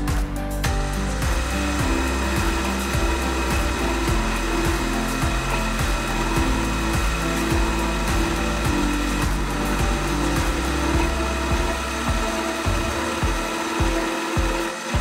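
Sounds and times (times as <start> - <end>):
background music with beat: 0.0 - 15.0
milling machine cutting steel: 0.7 - 15.0.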